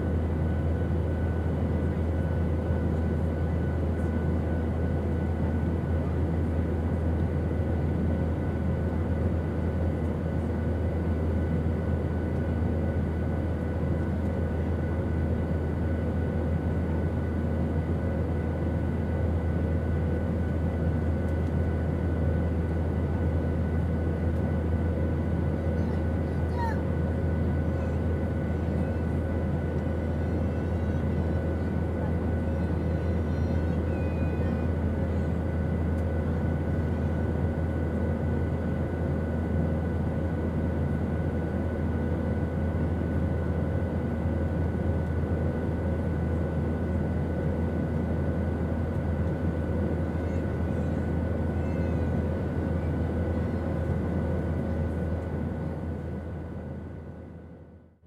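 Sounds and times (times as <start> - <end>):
airplane engine drone: 0.0 - 58.0.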